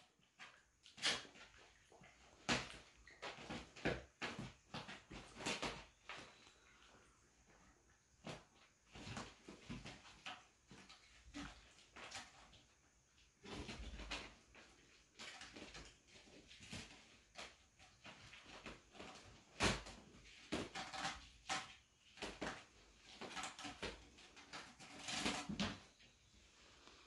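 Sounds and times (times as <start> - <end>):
kittens scuffling: 0.0 - 27.0.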